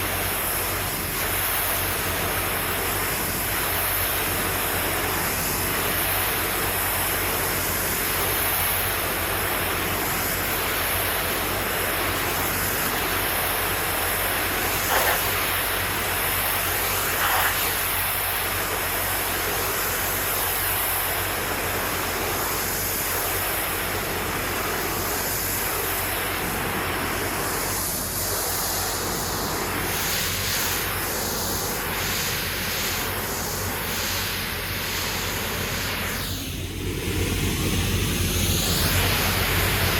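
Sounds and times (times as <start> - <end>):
pressure washer water jet hissing: 0.0 - 39.9.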